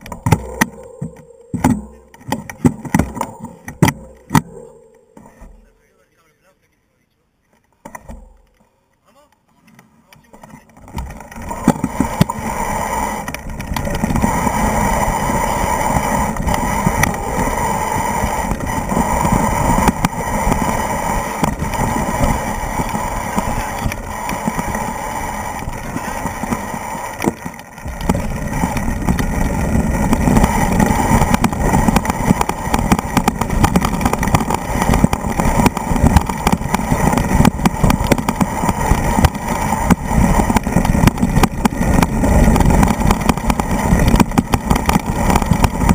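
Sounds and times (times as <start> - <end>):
bike rattling on loose stones: 0.0 - 5.7, 9.5 - 45.9.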